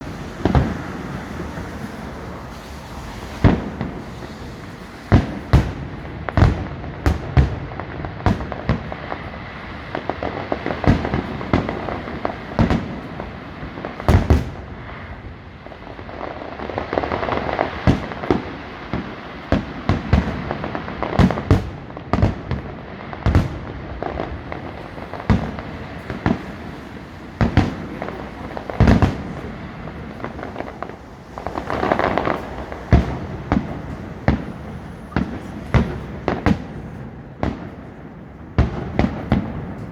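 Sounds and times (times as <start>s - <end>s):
fireworks bangs: 0.0s - 39.9s
steady background noise: 0.0s - 39.9s.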